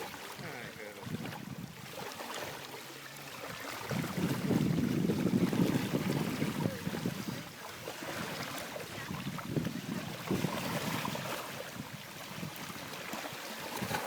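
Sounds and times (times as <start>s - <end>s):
sea: 0.0s - 14.0s
wind buffeting microphone: 0.4s - 2.1s, 3.8s - 14.0s.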